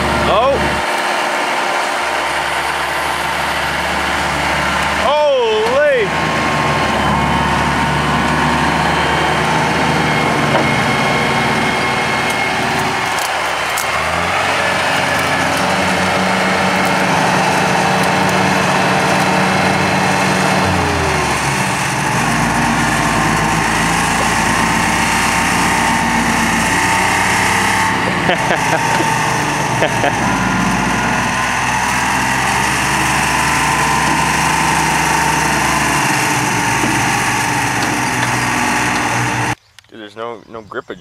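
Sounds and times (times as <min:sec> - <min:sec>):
tractor engine running under load: 0:00.0 - 0:39.6.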